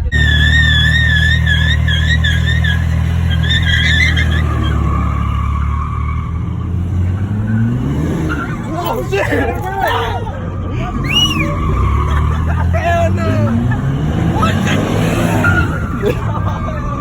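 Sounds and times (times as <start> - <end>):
truck engine revving: 0.0 - 17.0
tyres squealing: 0.0 - 17.0.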